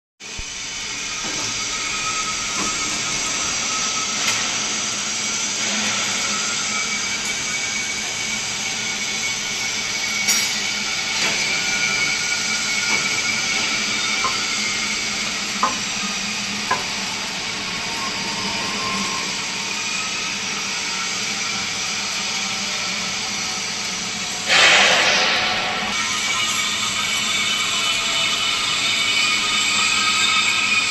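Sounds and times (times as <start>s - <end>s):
hissing machine with faint whine: 0.2s - 30.9s.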